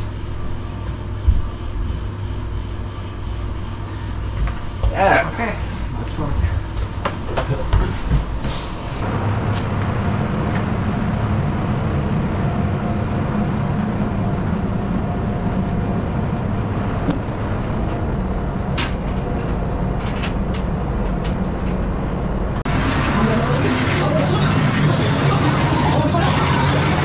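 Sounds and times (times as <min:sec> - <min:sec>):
machinery and ventilation drone: 0:00.0 - 0:27.0.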